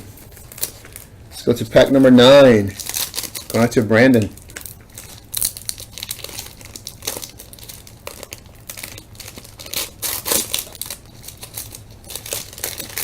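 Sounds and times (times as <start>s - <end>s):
wrapper tearing and crinkling: 0.3s - 13.0s.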